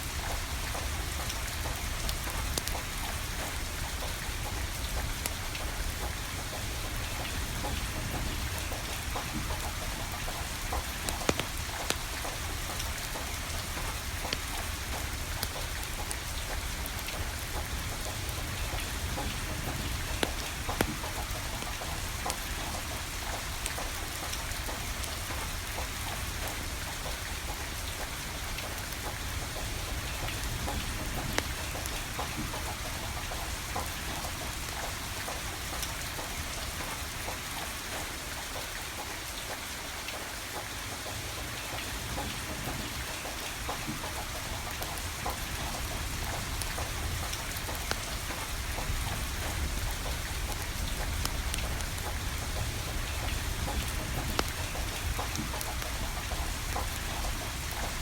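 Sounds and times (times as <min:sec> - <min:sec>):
rain falling: 0:00.0 - 0:58.0
wood fire crackling: 0:00.1 - 0:37.3, 0:42.0 - 0:58.0.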